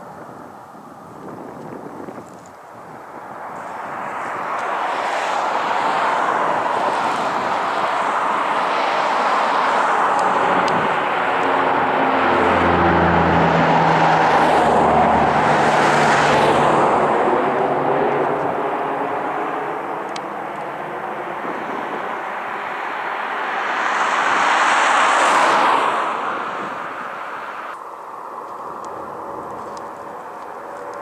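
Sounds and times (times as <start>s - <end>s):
plane flying low overhead: 0.0s - 31.0s
propeller hum: 0.6s - 31.0s.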